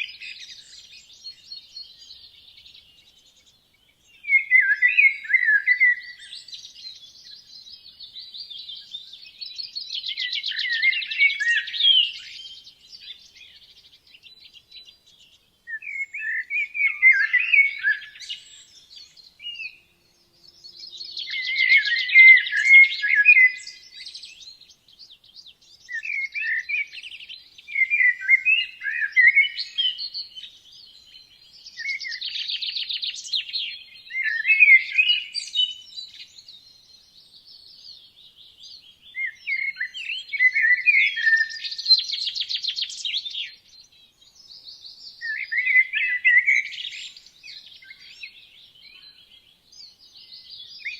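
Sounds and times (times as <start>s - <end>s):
songbird trilling and warbling: 0.0s - 50.9s.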